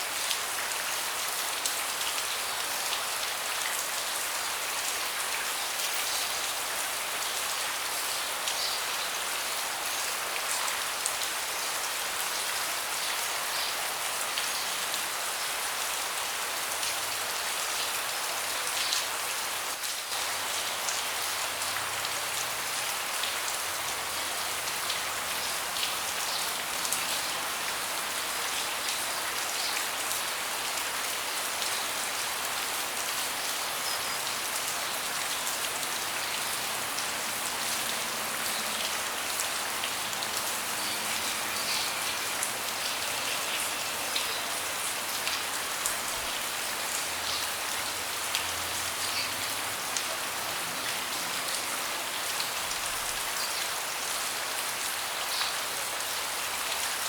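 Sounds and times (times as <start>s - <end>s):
rain falling on a deck: 0.0s - 57.0s.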